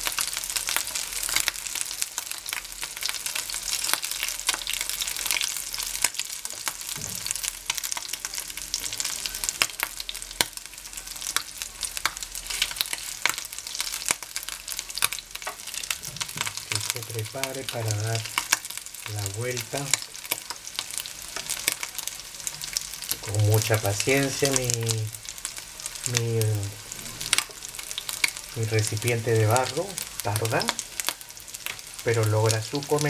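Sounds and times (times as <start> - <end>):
fritters sizzling in oil: 0.0 - 33.0.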